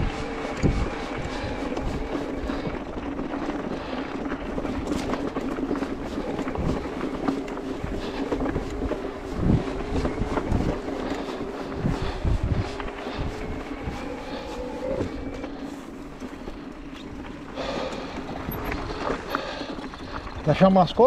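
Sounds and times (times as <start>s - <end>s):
wind on microphone: 0.0s - 19.5s
electric bike drivetrain whir: 0.0s - 21.0s
tyres rattling over stones: 1.3s - 21.0s.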